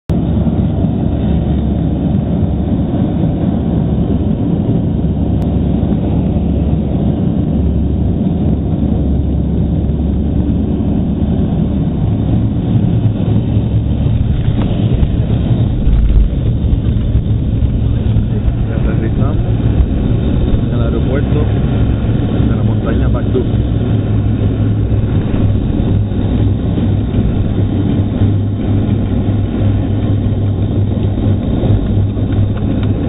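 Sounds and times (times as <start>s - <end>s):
jet engines rumbling in cabin: 0.1s - 33.0s.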